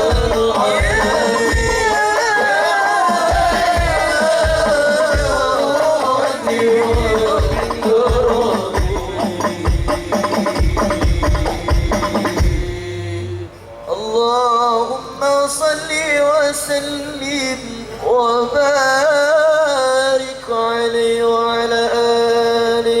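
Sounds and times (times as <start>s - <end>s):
person singing unaccompanied: 0.0s - 23.0s.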